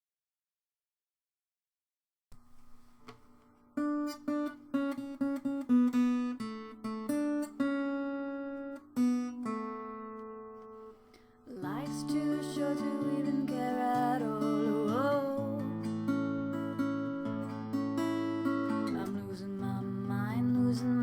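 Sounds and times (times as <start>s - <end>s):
acoustic guitar picking: 2.4s - 21.0s.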